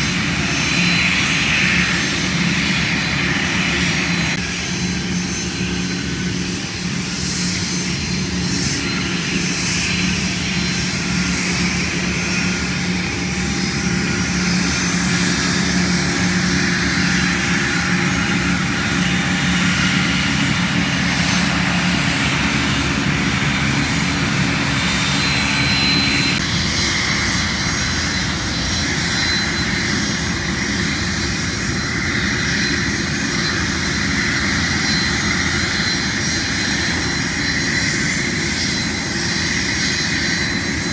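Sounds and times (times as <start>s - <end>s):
aircraft engines running: 0.0s - 40.9s.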